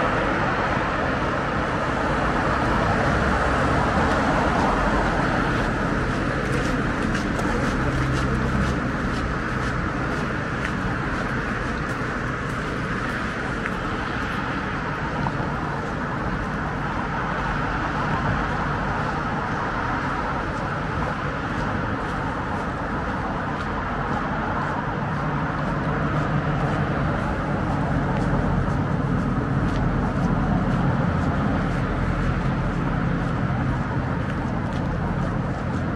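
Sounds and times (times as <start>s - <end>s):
road traffic: 0.0s - 35.9s.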